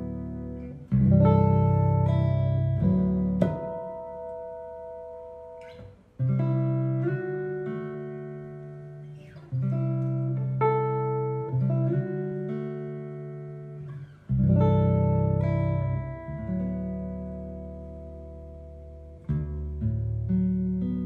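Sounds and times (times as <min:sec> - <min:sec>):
amplified jazz guitar chord-melody: 0:00.0 - 0:21.0.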